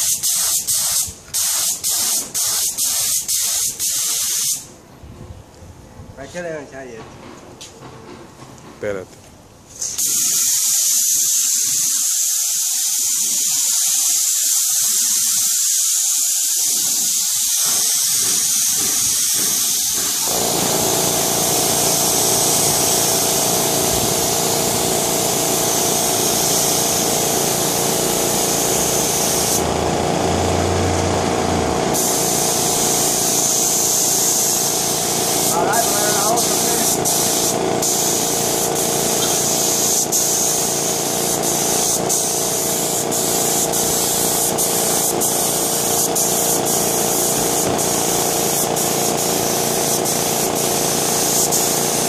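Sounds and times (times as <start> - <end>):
spray gun hissing: 0.0 - 4.7, 9.8 - 30.6, 31.8 - 52.0.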